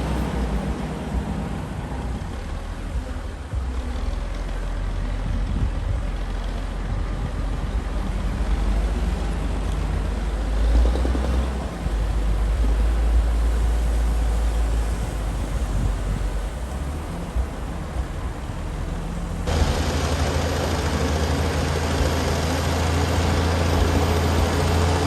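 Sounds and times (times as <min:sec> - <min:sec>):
bulldozer diesel engine rumbling: 0:00.0 - 0:25.0.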